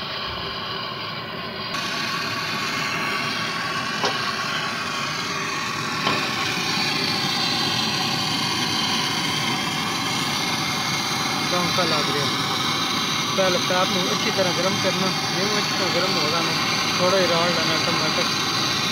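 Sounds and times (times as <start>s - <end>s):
torch flame hissing: 0.0s - 18.9s.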